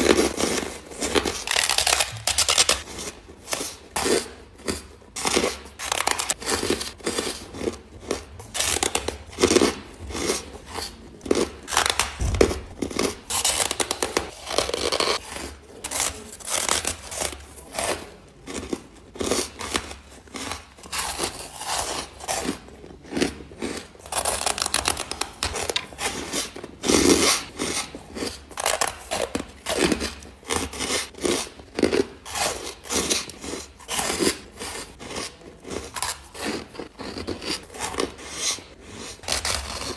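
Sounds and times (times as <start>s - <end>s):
ice crunching being chewed: 2.8s - 39.9s.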